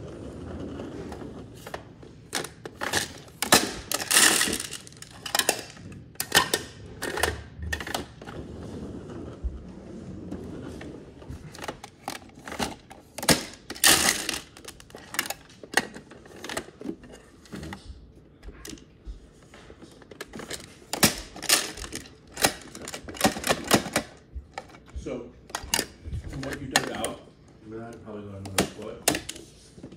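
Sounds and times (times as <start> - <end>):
clicks and knocks of hard objects: 1.6 - 8.3, 11.3 - 18.9, 19.5 - 27.2, 27.9 - 29.9.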